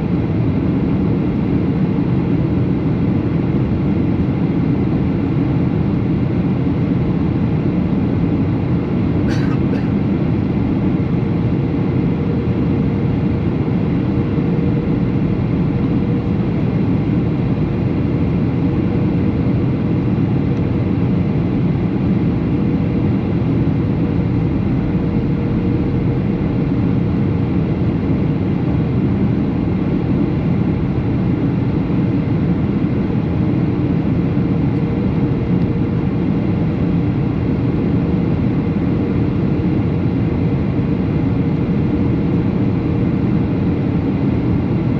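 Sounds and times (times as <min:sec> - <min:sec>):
airliner engines and airflow rushing: 0:00.0 - 0:44.9.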